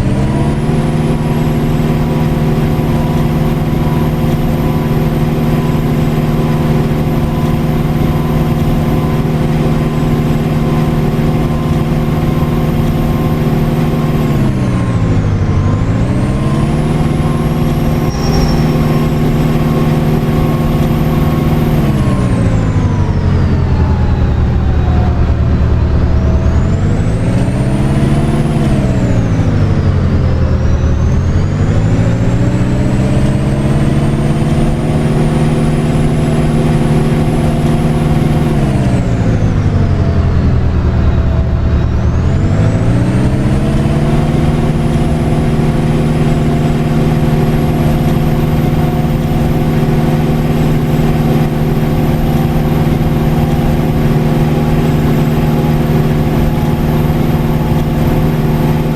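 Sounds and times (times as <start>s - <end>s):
bus engine: 0.0s - 58.9s
high whine: 0.0s - 58.9s.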